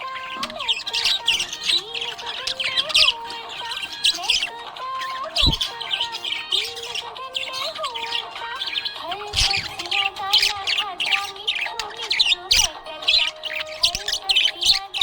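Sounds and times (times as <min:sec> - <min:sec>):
budgerigar chirping and squawking: 0:00.0 - 0:15.0.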